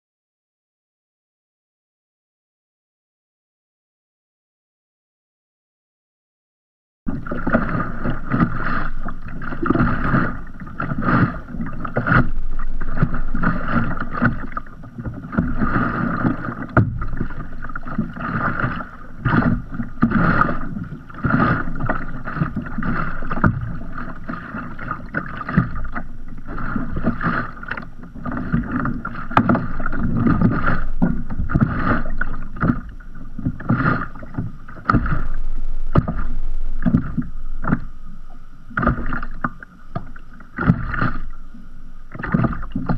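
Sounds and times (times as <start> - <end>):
waves lapping against kayak hull: 7.1 - 42.9.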